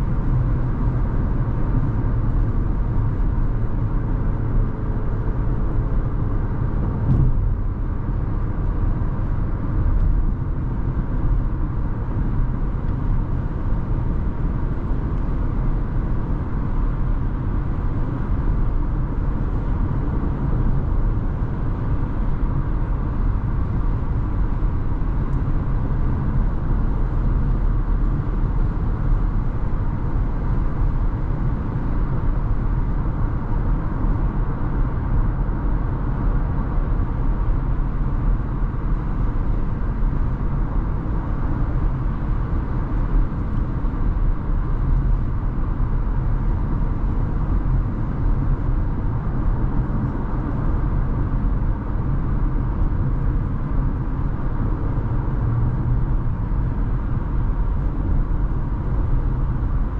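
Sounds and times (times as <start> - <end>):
car road and tyre noise: 0.0 - 59.9
wind: 0.0 - 59.9.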